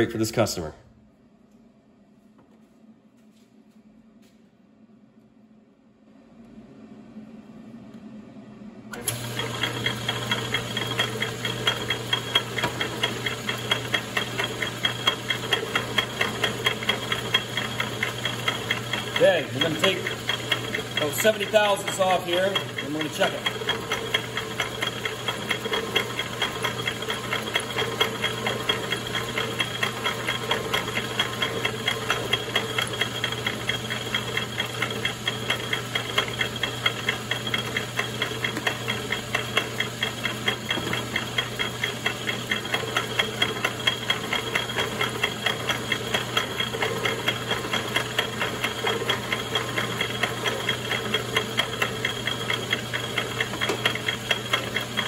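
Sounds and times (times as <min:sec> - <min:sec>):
lathe motor hum: 0:08.9 - 0:55.0
rapid ticking from cutter: 0:08.9 - 0:55.0.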